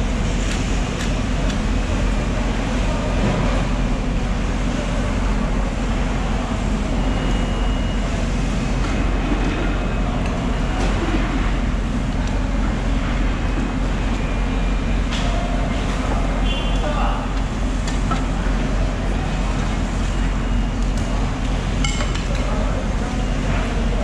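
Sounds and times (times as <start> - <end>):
low mechanical drone: 0.0 - 24.0.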